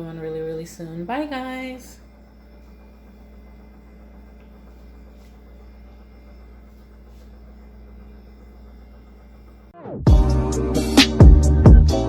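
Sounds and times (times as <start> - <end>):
low electrical hum: 0.0 - 9.8.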